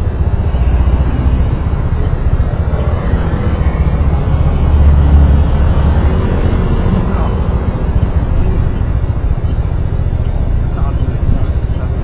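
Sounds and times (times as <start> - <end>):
vehicle road and wind rumble: 0.0 - 12.0.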